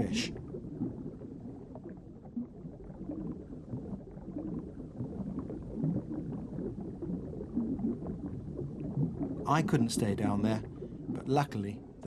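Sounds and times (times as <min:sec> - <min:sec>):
gurgling water: 0:00.0 - 0:12.0
low underwater rumble: 0:00.0 - 0:12.0.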